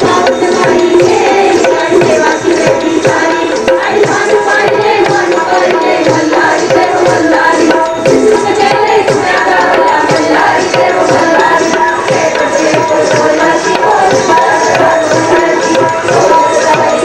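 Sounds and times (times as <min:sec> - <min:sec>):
hand drums playing rhythm: 0:00.0 - 0:17.0
women singing folk song: 0:00.0 - 0:17.0.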